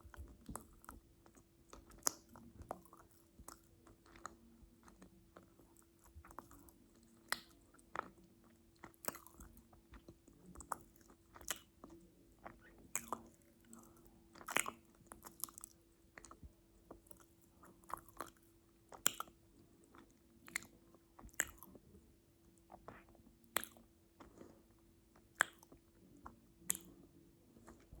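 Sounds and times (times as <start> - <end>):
chewing crunchy food: 0.0 - 28.0.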